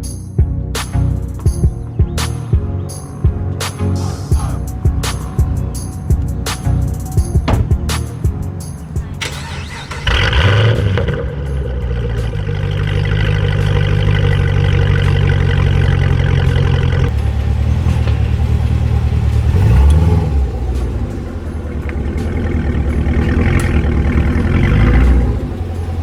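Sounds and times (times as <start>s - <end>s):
car engine running: 0.0s - 26.0s
faint clicks from rear wheel: 1.2s - 26.0s.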